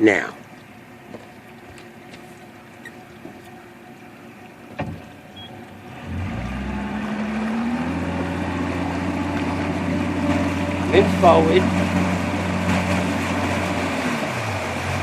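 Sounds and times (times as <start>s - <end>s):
outboard motor starting and idling: 0.6s - 15.0s.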